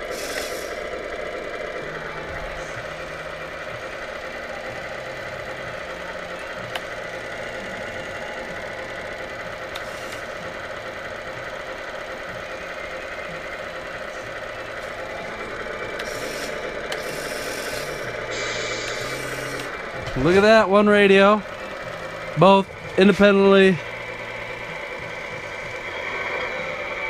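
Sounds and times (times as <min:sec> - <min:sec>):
toy truck motor whirring: 0:00.0 - 0:27.0.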